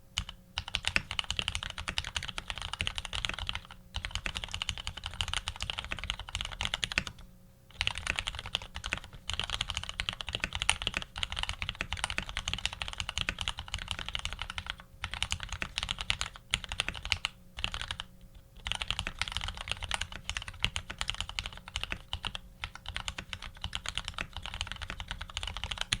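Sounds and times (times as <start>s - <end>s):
fast mechanical keyboard typing: 0.2s - 26.0s.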